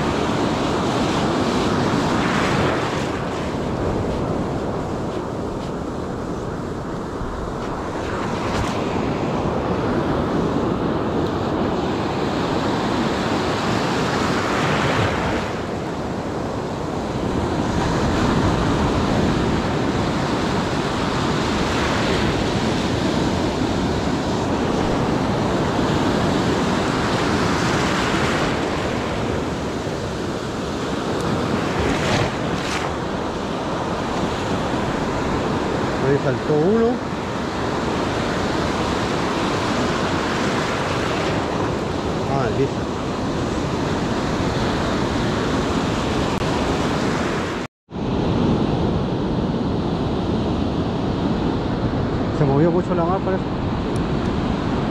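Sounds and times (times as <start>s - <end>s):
ocean surf breaking on beach: 0.0s - 54.9s
wind buffeting microphone: 0.0s - 54.9s.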